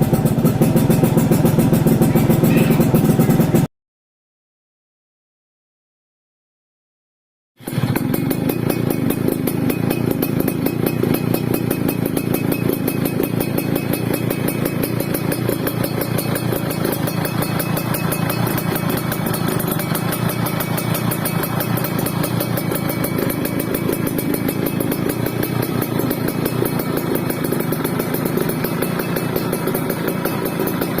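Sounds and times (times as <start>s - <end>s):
two-stroke motorcycle engine idling: 0.0s - 3.7s, 7.6s - 31.0s.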